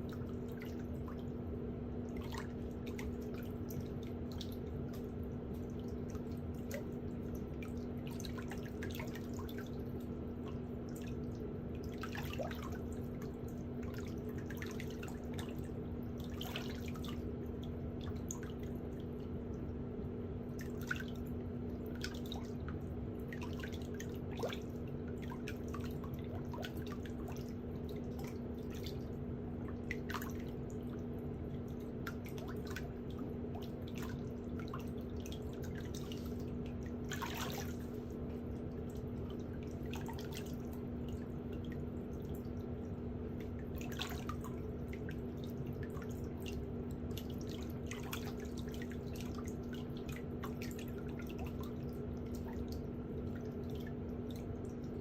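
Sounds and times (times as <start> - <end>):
low electric hum: 0.0 - 55.0.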